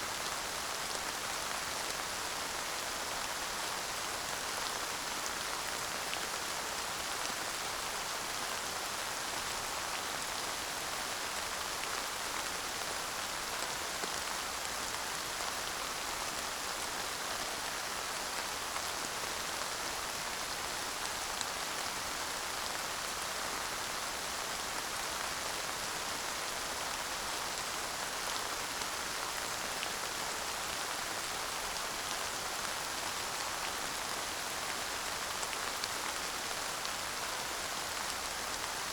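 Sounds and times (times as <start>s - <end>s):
light rain hiss: 0.0s - 38.9s.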